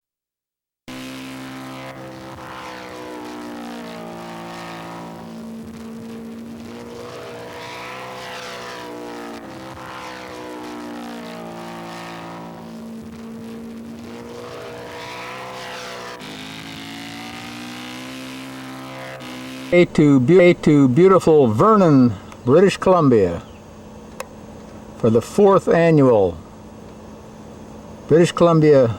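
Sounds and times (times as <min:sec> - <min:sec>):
model airplane propeller engines: 0:00.9 - 0:28.9.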